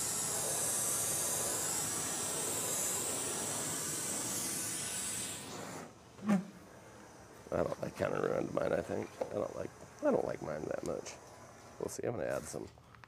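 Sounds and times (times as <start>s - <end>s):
propane torch hissing: 0.0s - 12.7s.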